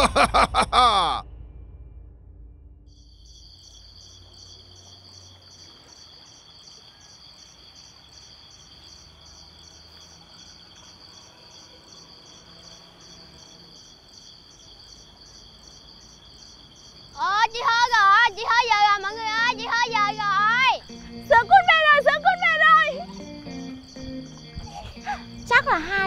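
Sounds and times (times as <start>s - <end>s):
faint outdoor background noise: 0.0s - 26.0s
crickets chirping: 2.9s - 26.0s.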